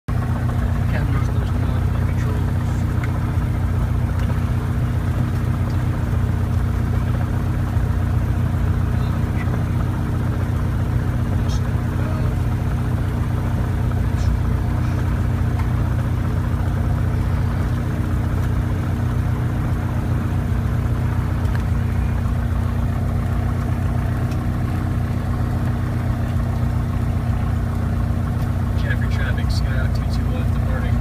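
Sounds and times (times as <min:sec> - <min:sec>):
propeller plane engine droning: 0:00.1 - 0:31.0.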